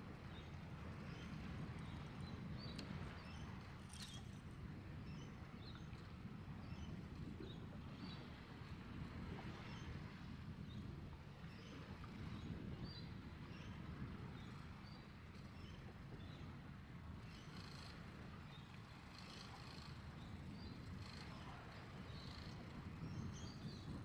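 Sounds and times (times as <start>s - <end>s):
low wind: 0.0s - 24.0s
water around a boat: 0.0s - 24.0s.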